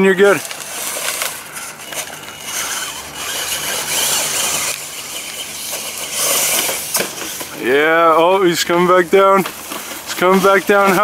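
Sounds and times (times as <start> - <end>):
rc truck motor and tyres: 0.0 - 11.0.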